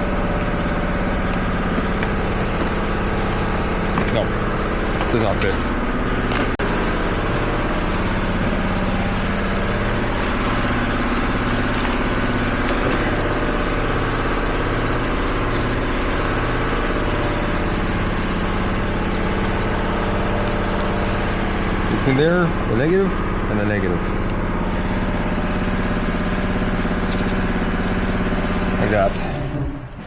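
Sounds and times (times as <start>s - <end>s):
engine idling with low throb: 0.0s - 30.0s.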